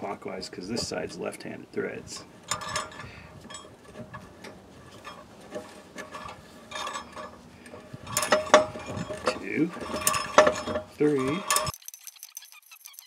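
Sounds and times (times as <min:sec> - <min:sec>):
metallic clicks and ticks: 0:00.0 - 0:13.0.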